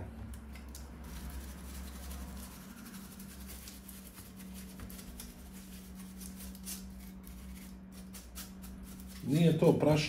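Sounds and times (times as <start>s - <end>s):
brush scrubbing circuit board: 1.0s - 9.5s.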